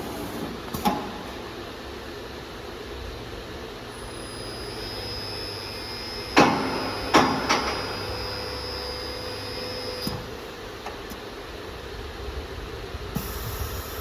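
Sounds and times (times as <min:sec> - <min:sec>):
machine hum with high whine: 0:00.0 - 0:14.0.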